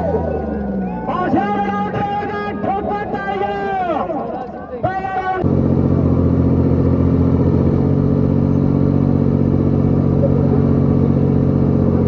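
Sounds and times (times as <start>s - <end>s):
tractor diesel engines at full load: 0.0s - 12.0s.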